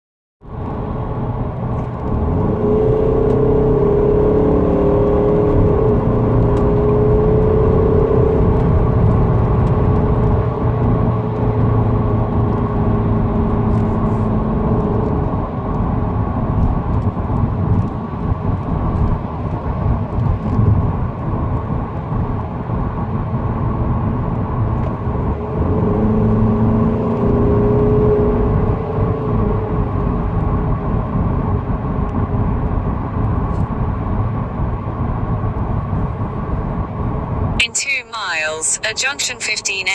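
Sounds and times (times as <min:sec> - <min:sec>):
car engine accelerating: 0:00.5 - 0:39.1.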